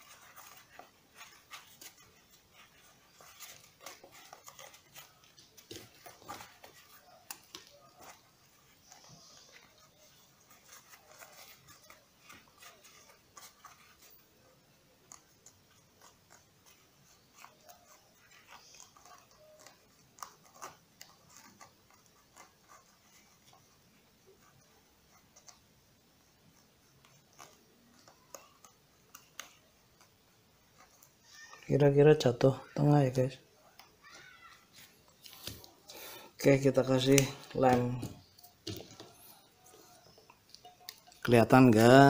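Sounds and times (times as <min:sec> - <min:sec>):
faint rustling of hands: 0:00.0 - 0:42.0.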